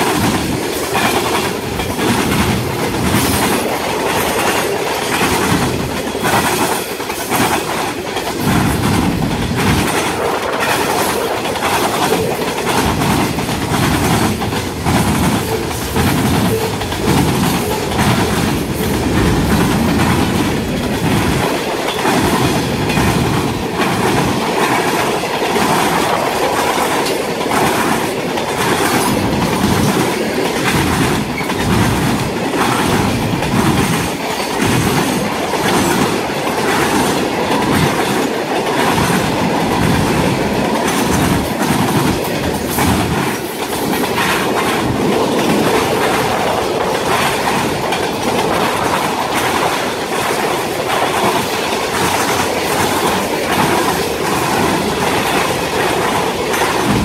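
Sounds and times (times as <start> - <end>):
clacks over rail joints: 0.0 - 57.0
train wheels rumbling on rail: 0.0 - 57.0.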